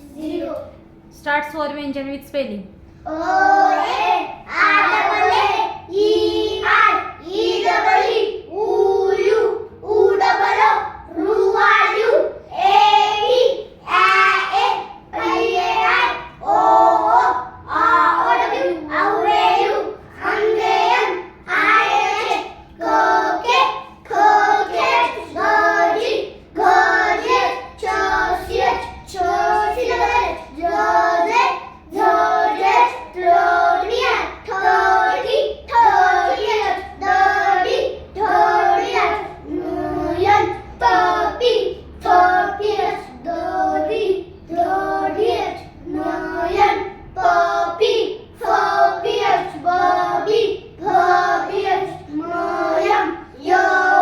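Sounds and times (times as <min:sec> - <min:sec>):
children chanting: 0:03.1 - 0:54.0.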